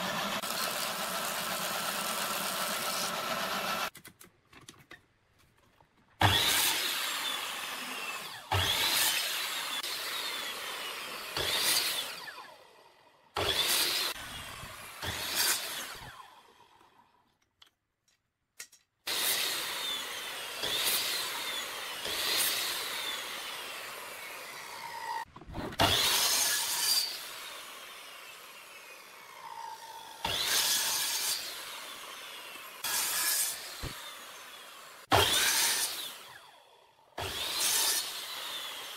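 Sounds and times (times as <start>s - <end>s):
miter saw cutting wood: 0.0s - 3.9s, 6.2s - 17.0s, 19.1s - 38.9s.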